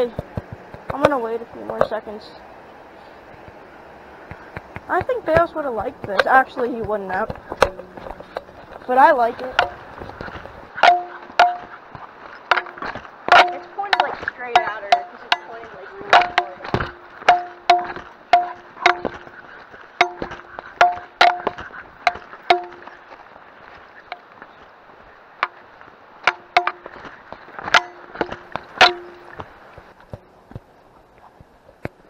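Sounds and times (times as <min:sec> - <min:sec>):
footsteps clicking on rocks: 0:00.0 - 0:02.0, 0:04.2 - 0:32.0.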